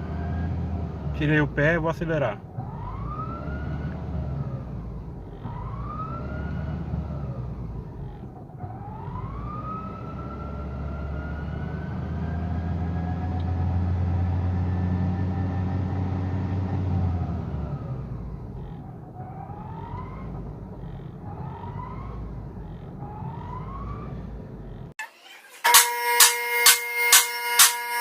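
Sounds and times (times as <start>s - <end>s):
engine and road drone: 0.0s - 28.0s
gearbox whining: 0.0s - 28.0s.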